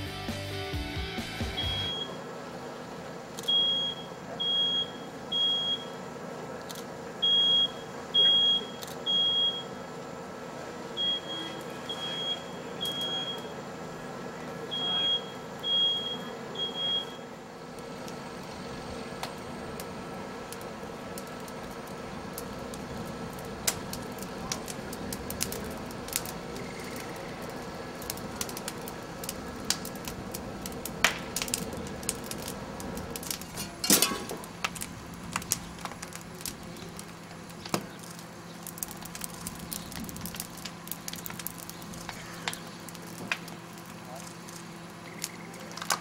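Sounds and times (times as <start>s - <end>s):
rush of flame: 1.2s - 46.0s
fire cracking and popping: 3.0s - 9.9s, 10.9s - 46.0s.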